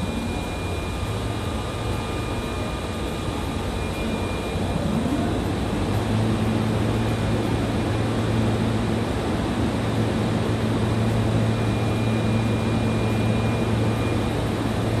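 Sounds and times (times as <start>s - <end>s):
subway train equipment hum: 0.0s - 15.0s.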